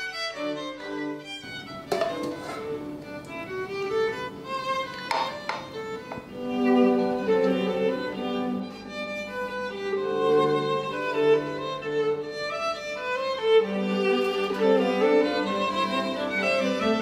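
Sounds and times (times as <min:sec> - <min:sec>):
low sustained string notes: 0:00.0 - 0:17.0
violin melody in held notes: 0:00.0 - 0:17.0.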